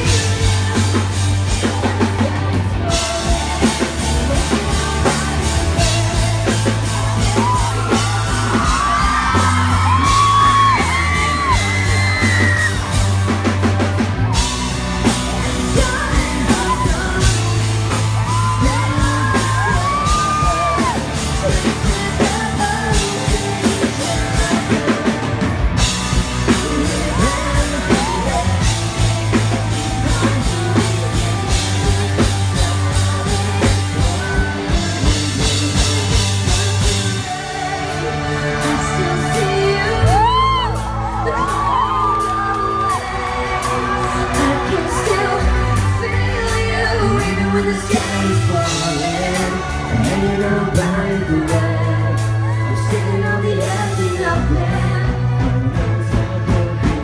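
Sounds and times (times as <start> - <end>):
live rock band: 0.0 - 57.0
person singing and yelling: 0.0 - 57.0.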